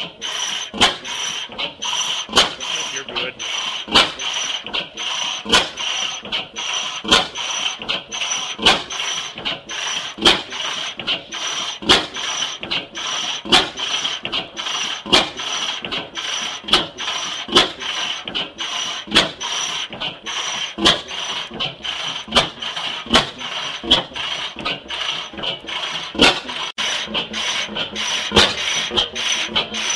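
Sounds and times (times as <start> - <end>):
oil field engine firing: 0.0 - 29.9.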